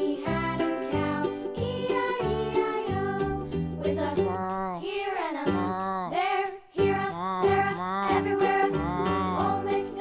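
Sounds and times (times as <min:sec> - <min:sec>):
cheerful children's music: 0:00.0 - 0:10.0.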